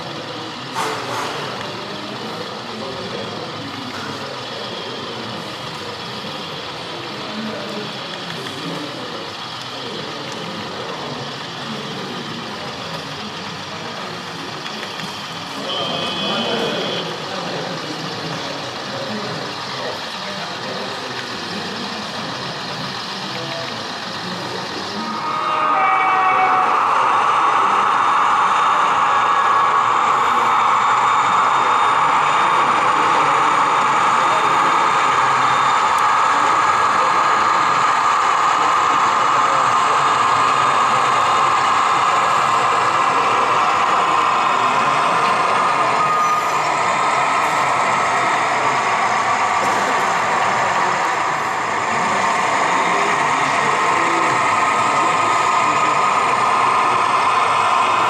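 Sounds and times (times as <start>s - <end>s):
crowd chatter in a hall: 0.0s - 58.0s
model train diesel engine sound: 0.0s - 58.0s.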